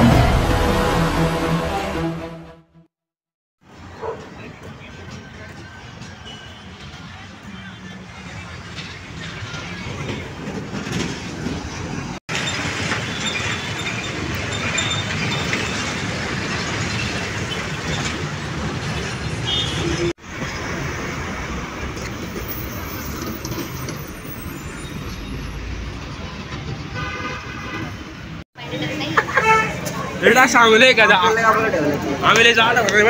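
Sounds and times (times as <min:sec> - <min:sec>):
moving vehicle noise: 0:03.6 - 0:33.0.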